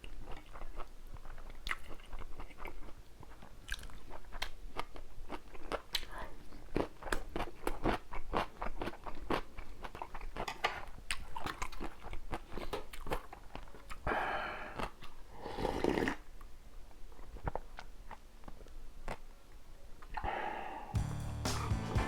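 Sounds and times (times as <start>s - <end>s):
crunching and chewing food: 0.0s - 20.3s.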